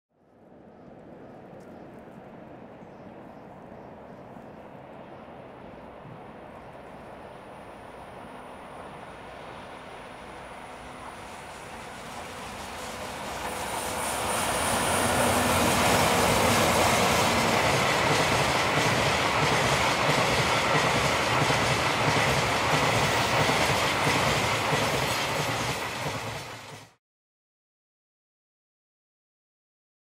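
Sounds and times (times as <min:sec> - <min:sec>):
electric locomotives passing: 0:00.3 - 0:27.0
train wheels running on rails: 0:02.1 - 0:27.0.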